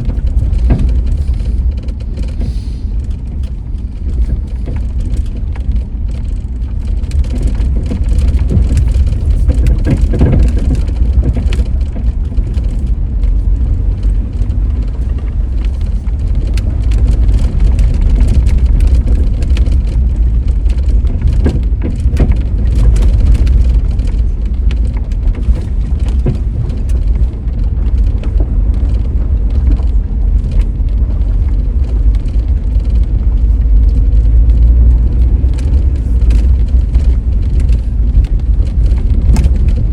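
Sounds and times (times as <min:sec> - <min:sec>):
vehicle road and engine rumble: 0:00.0 - 0:39.9
small ticks and knocks: 0:00.1 - 0:39.9.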